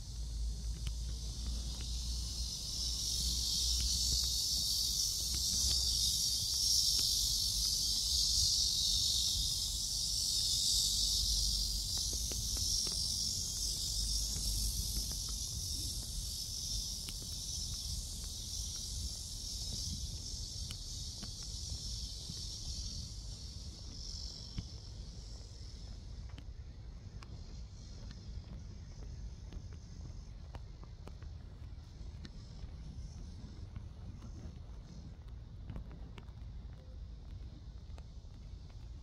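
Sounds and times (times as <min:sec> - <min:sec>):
cicadas buzzing: 0:00.0 - 0:39.0.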